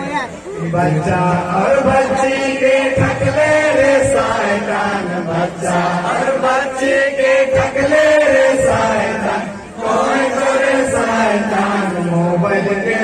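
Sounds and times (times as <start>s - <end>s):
voices singing through a pa: 0.0s - 13.0s.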